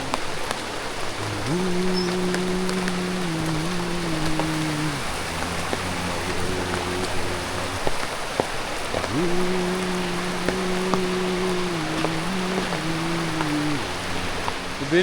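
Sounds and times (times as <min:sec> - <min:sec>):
rain hiss: 0:00.0 - 0:15.0
raindrop ticks: 0:00.0 - 0:15.0.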